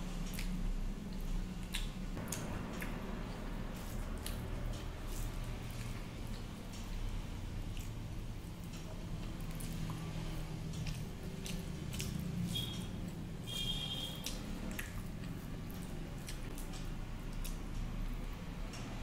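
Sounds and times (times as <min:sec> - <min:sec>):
wet chewing and mouth clicks: 0:00.0 - 0:19.0
fingers squishing rice: 0:00.3 - 0:18.4.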